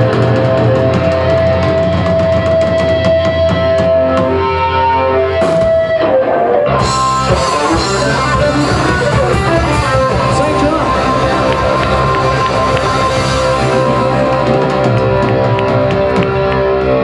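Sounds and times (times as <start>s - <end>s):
bass guitar: 0.0s - 17.0s
drum kit: 0.0s - 17.0s
electric guitar chords: 0.0s - 17.0s.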